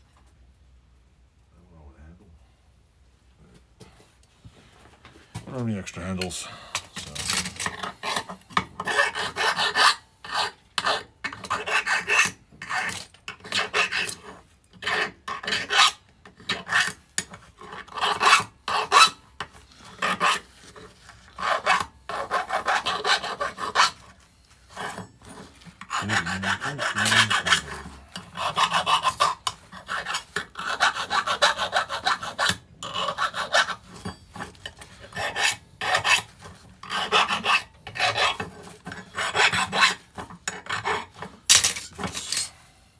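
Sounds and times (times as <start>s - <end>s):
hand file scraping steel: 6.2s - 42.7s.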